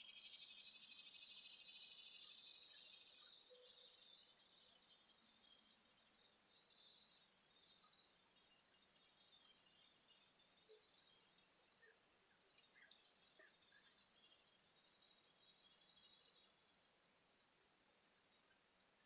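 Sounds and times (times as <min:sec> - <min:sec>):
high-pitched insect chorus: 0:00.0 - 0:17.4.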